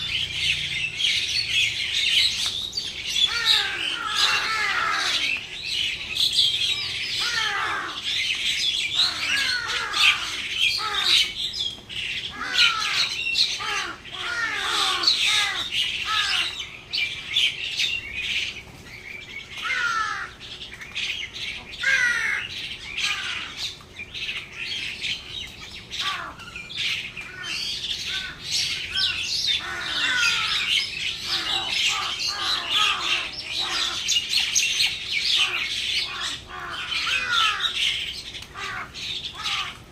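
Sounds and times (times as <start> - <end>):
birds chattering and squawking: 0.0 - 39.9.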